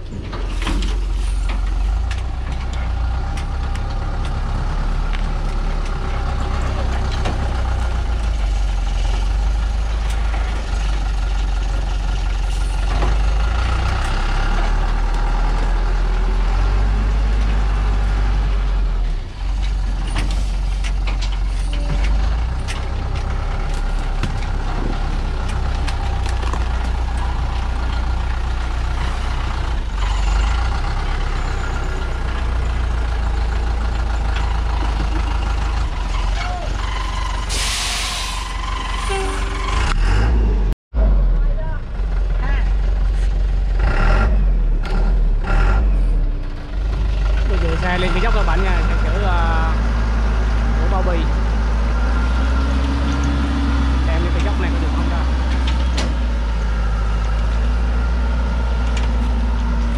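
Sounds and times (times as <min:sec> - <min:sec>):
truck engine labouring: 0:00.0 - 0:59.9.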